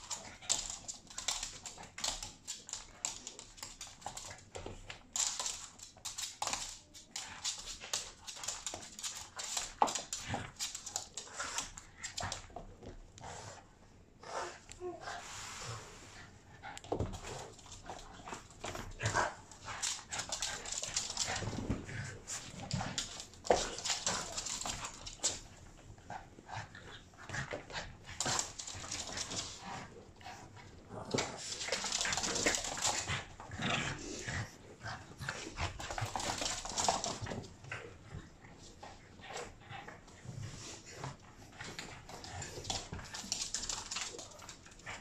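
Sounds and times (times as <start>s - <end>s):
puppy scuffling with toy: 0.0s - 13.8s, 14.5s - 45.0s.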